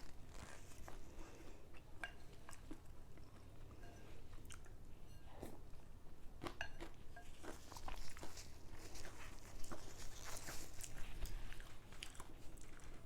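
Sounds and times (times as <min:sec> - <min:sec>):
person chewing: 0:00.0 - 0:04.8, 0:06.4 - 0:13.0.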